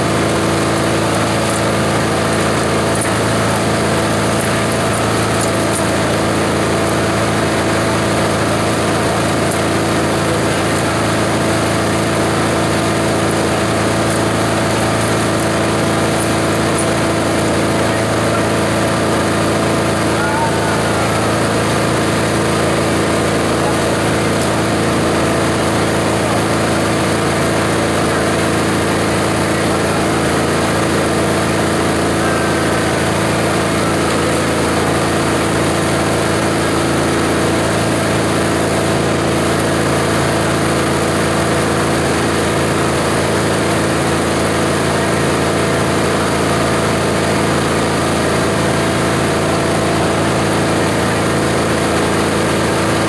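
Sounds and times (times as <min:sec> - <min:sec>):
shredder running: 0:00.0 - 0:53.0.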